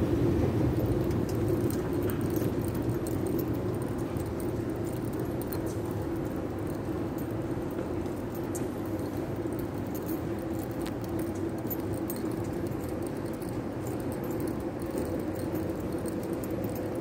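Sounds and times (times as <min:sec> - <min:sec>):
underground passage hum: 0:00.0 - 0:17.0
faint clicks and jingling: 0:00.6 - 0:17.0.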